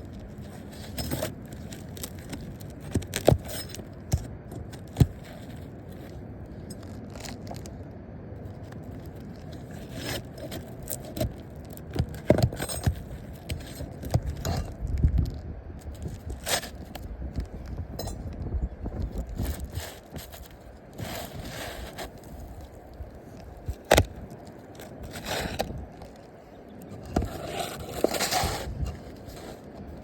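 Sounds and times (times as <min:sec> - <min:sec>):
shingle scraping and crackling: 0:00.0 - 0:30.0.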